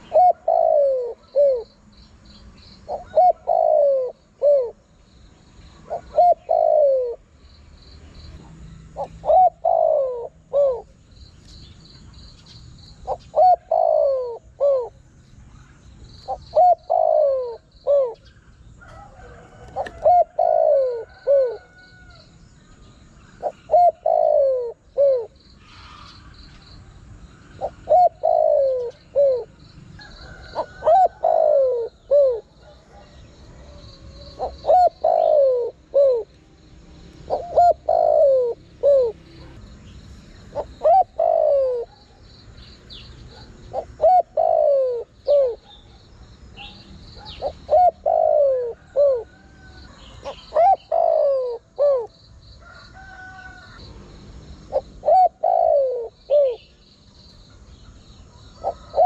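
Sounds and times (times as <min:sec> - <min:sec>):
dove cooing: 0:00.0 - 0:01.8, 0:02.8 - 0:07.3, 0:08.4 - 0:11.0, 0:13.0 - 0:15.6, 0:16.2 - 0:22.2, 0:23.2 - 0:26.3, 0:27.4 - 0:36.3, 0:37.1 - 0:42.3, 0:42.9 - 0:46.0, 0:46.6 - 0:53.8, 0:54.6 - 0:56.8, 0:58.2 - 0:59.0.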